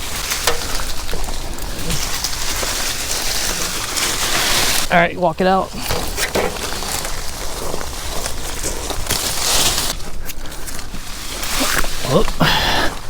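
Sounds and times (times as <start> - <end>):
twigs snapping: 0.0 - 5.0, 5.7 - 13.0
branches rustling and crackling: 0.0 - 13.0
leaves scraping: 0.0 - 13.0.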